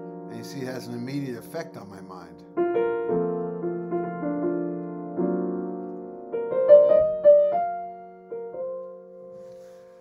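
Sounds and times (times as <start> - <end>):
soft grand piano: 0.0 - 10.0.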